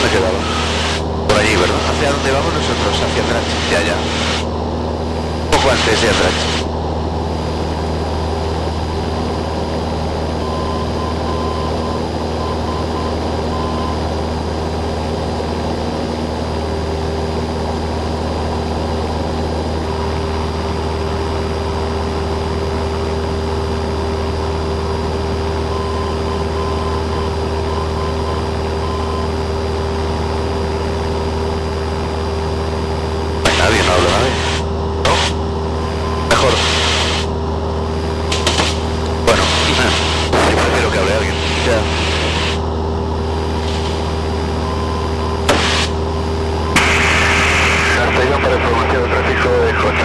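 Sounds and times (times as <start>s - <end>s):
aircraft engine and propeller drone: 0.0s - 50.0s.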